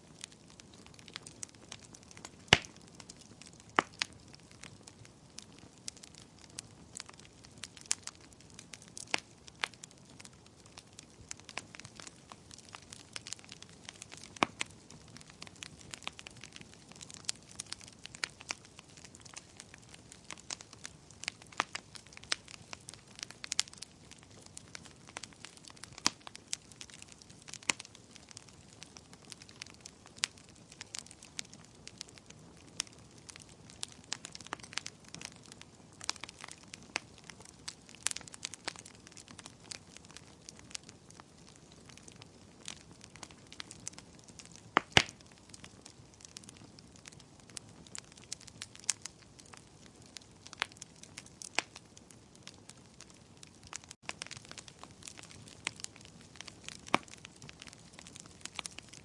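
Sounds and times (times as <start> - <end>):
low rumble of burning: 0.0 - 59.0
wood fire crackling: 0.0 - 59.0.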